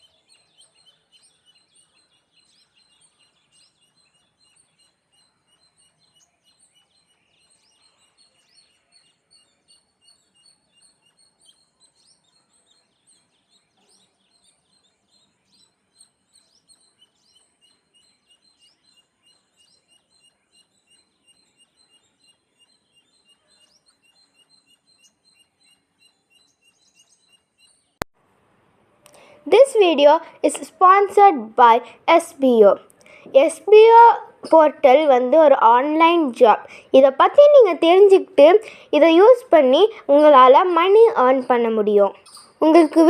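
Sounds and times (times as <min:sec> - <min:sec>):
faint small birds chirping: 0:00.0 - 0:28.0, 0:28.9 - 0:43.0.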